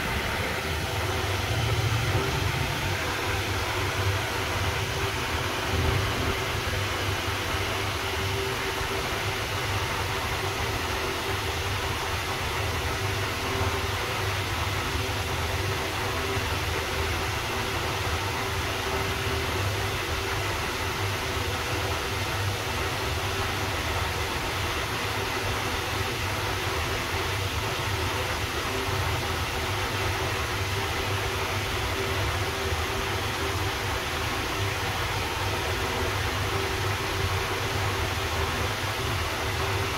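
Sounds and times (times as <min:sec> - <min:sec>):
wall fan running: 0:00.0 - 0:39.9.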